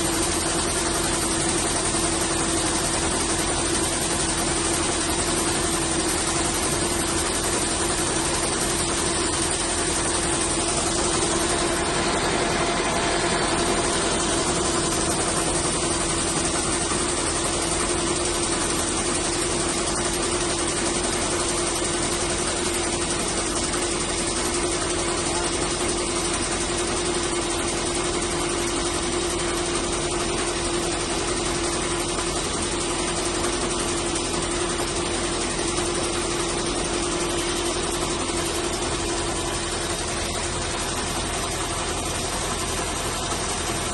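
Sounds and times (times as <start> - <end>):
combine harvester droning: 0.0 - 43.9.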